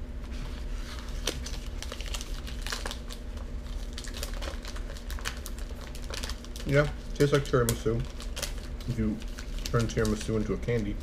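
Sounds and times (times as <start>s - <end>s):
low steady hum: 0.0s - 11.0s
wrapper crinkling: 0.8s - 11.0s.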